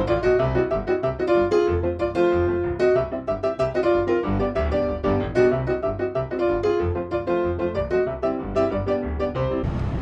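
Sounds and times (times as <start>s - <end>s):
keyboard music: 0.0s - 9.6s.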